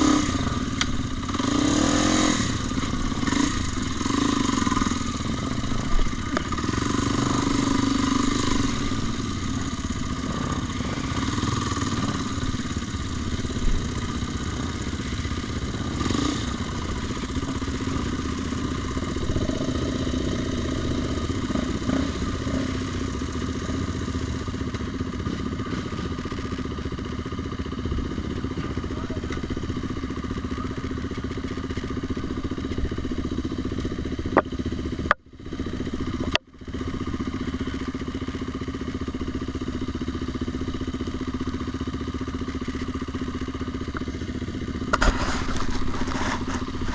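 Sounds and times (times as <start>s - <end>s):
vehicle engine running: 0.0s - 46.9s.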